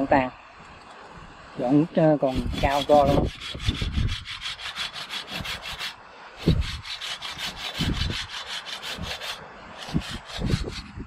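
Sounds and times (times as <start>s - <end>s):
hand saw cutting branch: 1.9s - 11.0s.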